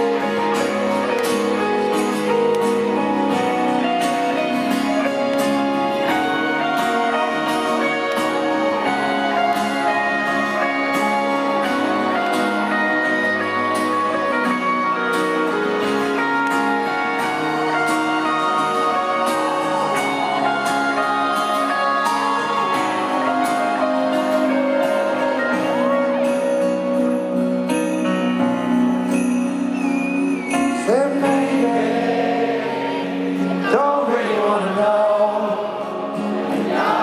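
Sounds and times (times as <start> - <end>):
keyboard chords: 0.0 - 34.1
guitar chords: 0.0 - 37.0.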